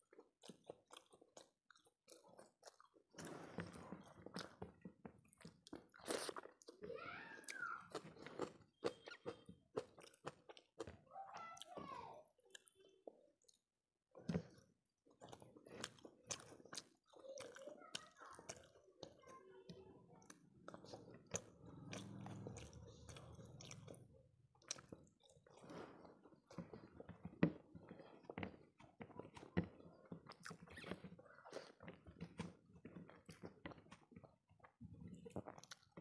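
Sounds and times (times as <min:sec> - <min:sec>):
wet chewing and mouth clicks: 0:00.0 - 0:11.8, 0:12.4 - 0:36.0.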